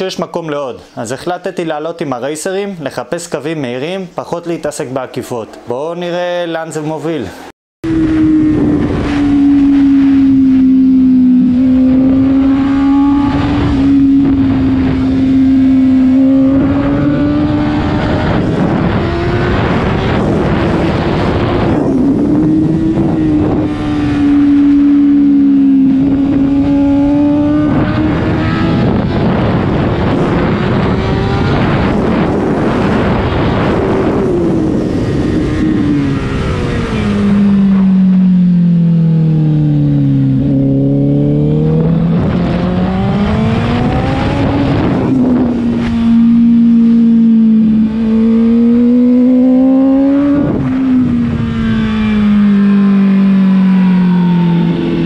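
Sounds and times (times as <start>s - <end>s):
wind rush: 7.3s - 55.0s
motorcycle engine racing: 7.8s - 55.0s.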